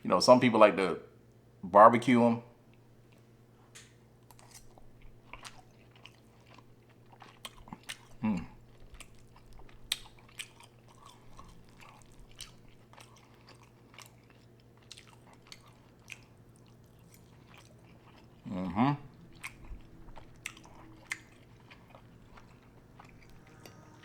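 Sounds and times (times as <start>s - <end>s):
wet chewing and lip-smacking: 2.7s - 24.0s.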